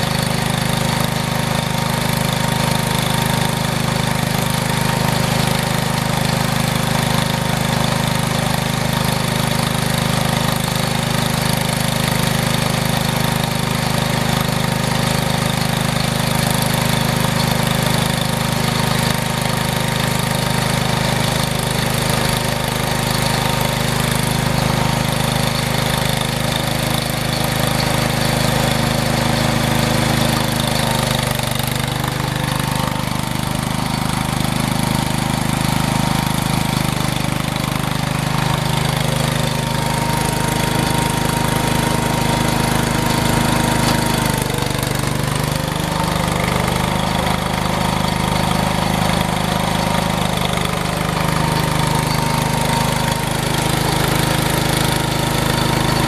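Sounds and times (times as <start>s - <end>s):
snow-clearing machine engine: 0.0s - 56.0s.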